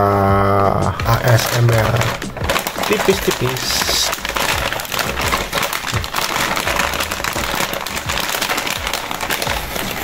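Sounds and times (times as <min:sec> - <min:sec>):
plastic snack bag crinkling: 0:00.9 - 0:10.0.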